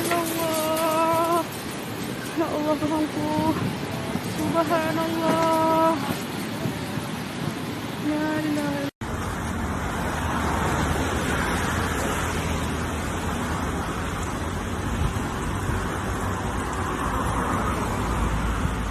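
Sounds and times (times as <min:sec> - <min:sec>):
heavy rain: 0:00.0 - 0:18.9
storm wind: 0:00.0 - 0:18.9.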